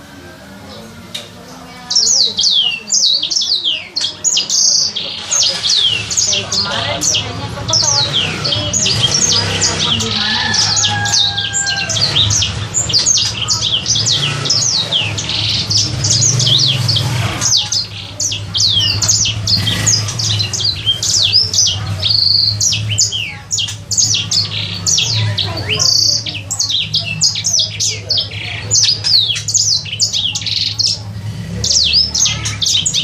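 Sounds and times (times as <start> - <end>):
bird singing high sliding notes: 1.9 - 33.0.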